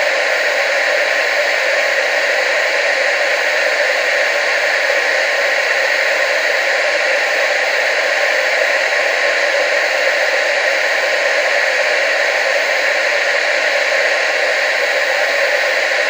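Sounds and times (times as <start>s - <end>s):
television static hiss: 0.0s - 16.0s.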